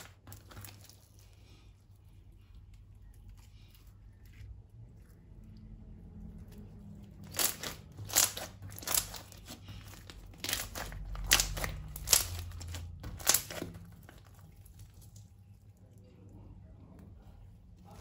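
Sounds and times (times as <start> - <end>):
crunchy slime crackling: 0.0 - 16.4.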